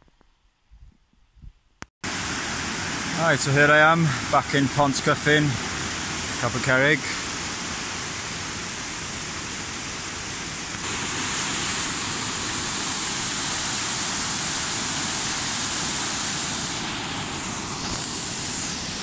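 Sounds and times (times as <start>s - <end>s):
river rushing over rocks: 2.1s - 19.0s.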